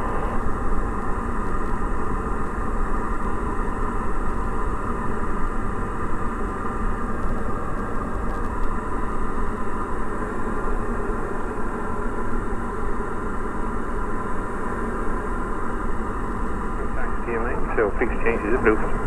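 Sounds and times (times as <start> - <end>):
aircraft engine and propeller drone: 0.0 - 19.0.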